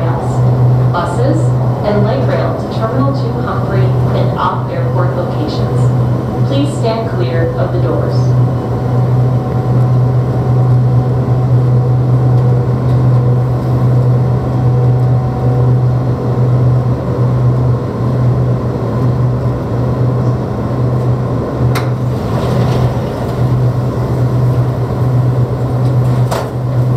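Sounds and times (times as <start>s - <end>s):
tram car humming: 0.0s - 26.9s.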